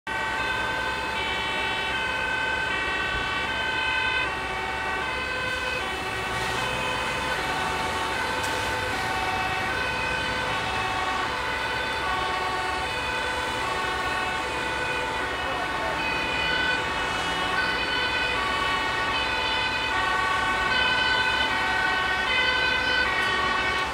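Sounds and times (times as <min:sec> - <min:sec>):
motorway traffic noise: 0:00.0 - 0:23.9
two-tone fire engine siren: 0:00.0 - 0:23.9.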